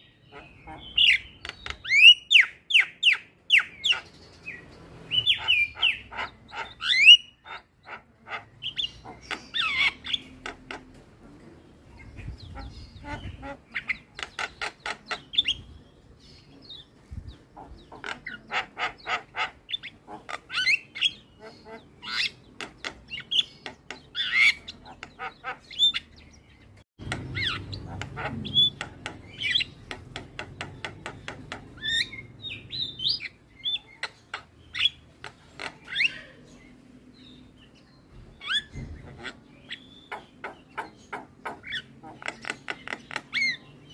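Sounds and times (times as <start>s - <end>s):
bird chattering and singing: 0.0s - 43.9s.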